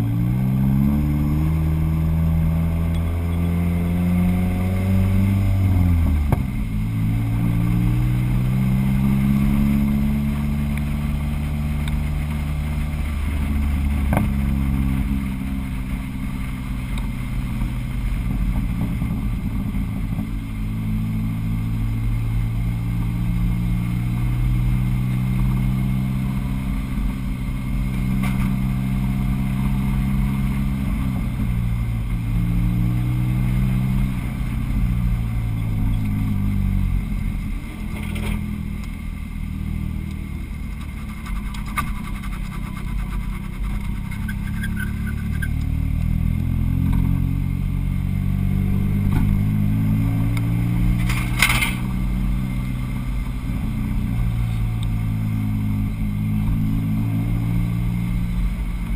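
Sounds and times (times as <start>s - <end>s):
car engine at low revs: 0.0s - 58.9s.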